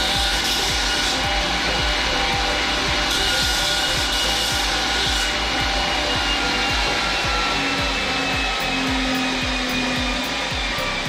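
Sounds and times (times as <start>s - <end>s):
belt grinder grinding steel: 0.0s - 11.0s.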